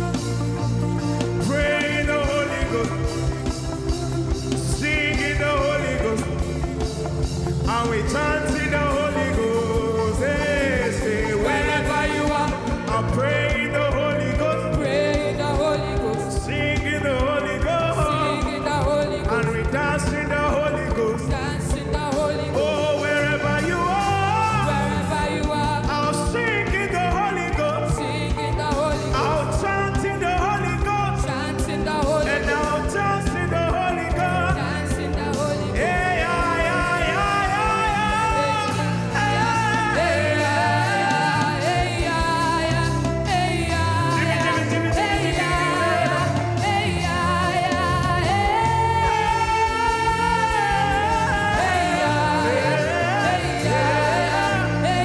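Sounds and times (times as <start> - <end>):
bass: 0.0 - 55.0
gospel singing voices: 0.0 - 55.0
keyboard: 0.0 - 55.0
steady drum beat: 0.0 - 55.0.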